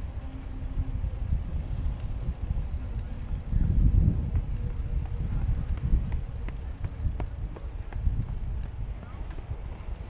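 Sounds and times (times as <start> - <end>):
bicycle rolling over pavement: 0.0 - 10.0
bike clicks and rattles: 0.0 - 10.0
wind on microphone: 0.0 - 10.0.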